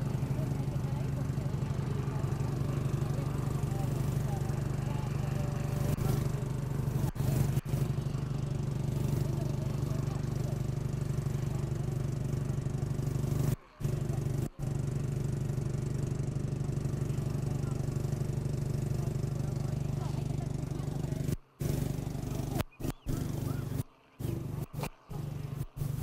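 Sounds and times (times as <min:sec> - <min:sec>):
helicopter rotor beating: 0:00.0 - 0:26.0.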